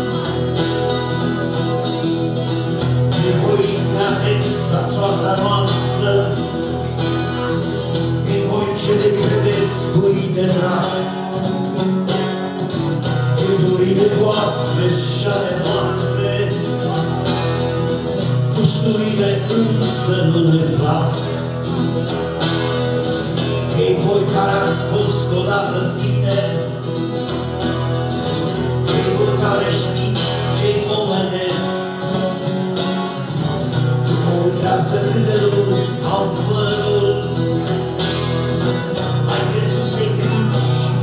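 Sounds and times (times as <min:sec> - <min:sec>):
acoustic guitar strumming: 0:00.0 - 0:41.0
steady bass: 0:00.0 - 0:41.0
man singing: 0:01.1 - 0:11.9, 0:13.0 - 0:22.2, 0:23.3 - 0:27.4, 0:28.5 - 0:32.4, 0:33.9 - 0:41.0.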